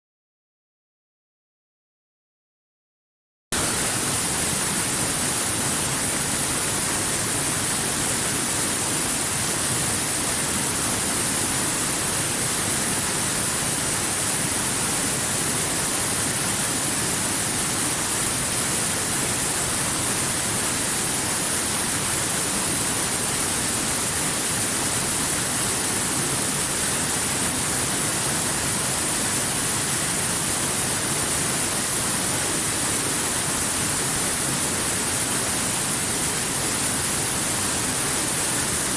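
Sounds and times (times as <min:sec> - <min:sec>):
waterfall rushing: 0:03.6 - 0:38.9.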